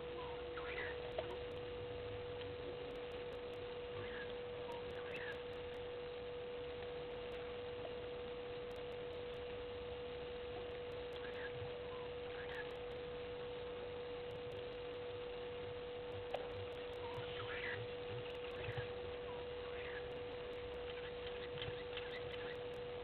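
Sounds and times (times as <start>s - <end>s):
electrical hum: 0.0s - 23.0s
faint background hiss: 0.0s - 23.0s.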